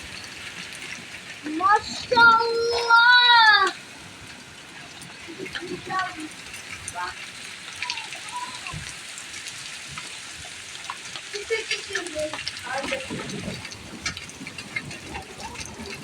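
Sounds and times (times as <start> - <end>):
hailstones pelting hard surfaces: 0.0 - 16.0.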